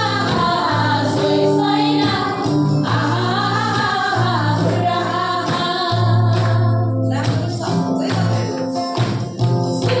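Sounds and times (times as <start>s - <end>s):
women singing: 0.0s - 8.6s
instrumental accompaniment: 0.0s - 10.0s
tambourine shaken in rhythm: 0.0s - 10.0s.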